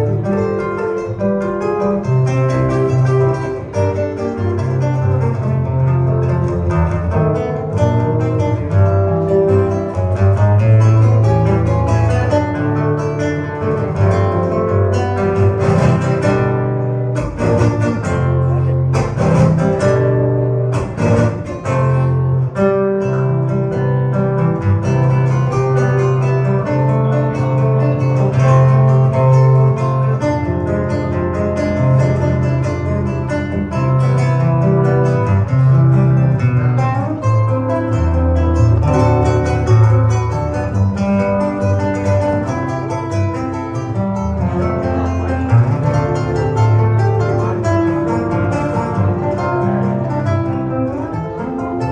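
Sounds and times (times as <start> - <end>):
flamenco acoustic guitar: 0.0 - 51.9.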